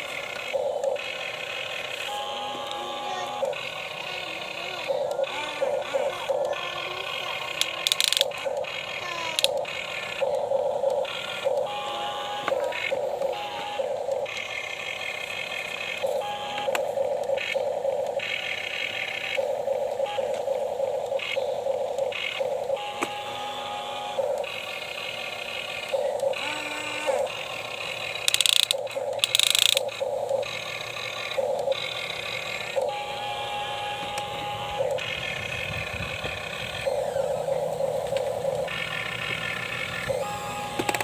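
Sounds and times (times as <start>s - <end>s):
harsh noise bursts: 0.0s - 41.0s
small electric motors whirring: 0.0s - 41.0s.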